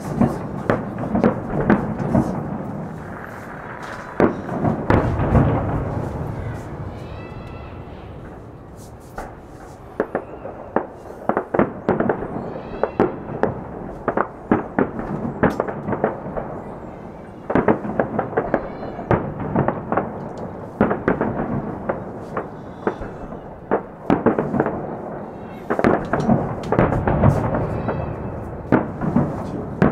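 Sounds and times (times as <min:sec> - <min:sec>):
fireworks bursting and crackling: 0:00.0 - 0:29.9.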